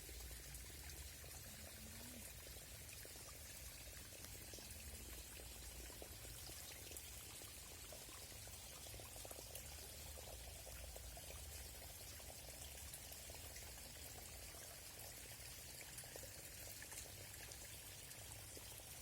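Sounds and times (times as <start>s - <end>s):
stream flowing with trickles: 0.0s - 19.0s.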